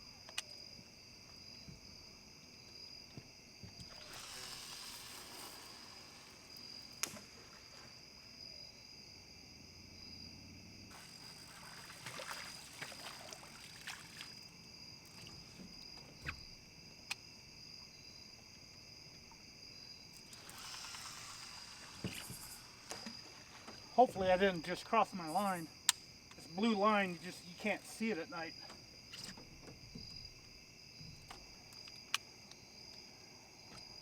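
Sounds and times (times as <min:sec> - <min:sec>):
night insects trilling: 0:00.0 - 0:34.0.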